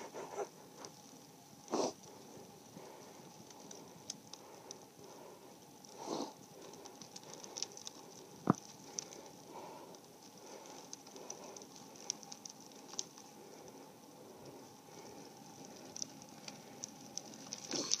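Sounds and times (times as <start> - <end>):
bicycle tyres on asphalt: 0.0 - 18.0.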